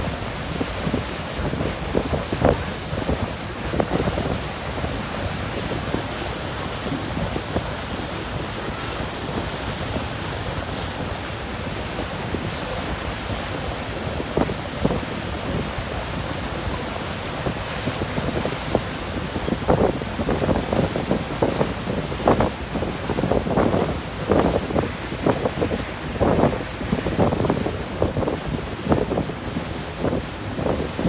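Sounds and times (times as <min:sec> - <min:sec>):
sea water rushing: 0:00.0 - 0:31.0
wind buffeting microphone: 0:00.0 - 0:31.0.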